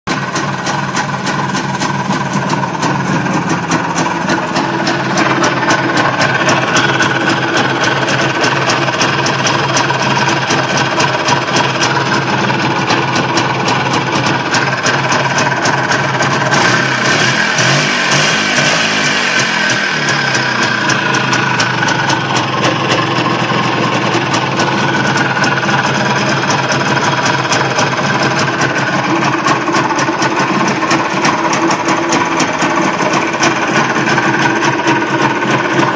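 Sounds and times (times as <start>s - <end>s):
motorcycle engine idling: 0.1s - 35.9s.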